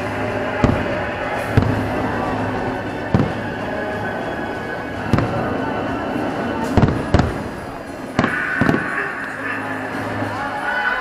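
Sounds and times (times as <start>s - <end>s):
fireworks bangs: 0.0s - 9.4s
show music: 0.0s - 11.0s.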